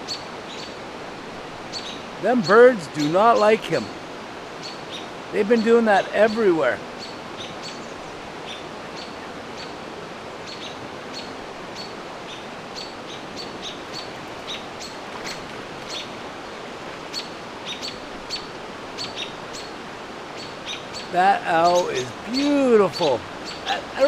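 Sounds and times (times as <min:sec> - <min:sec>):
steady hiss: 0:00.8 - 0:24.0
songbirds chip calls: 0:01.6 - 0:09.8, 0:10.4 - 0:24.0.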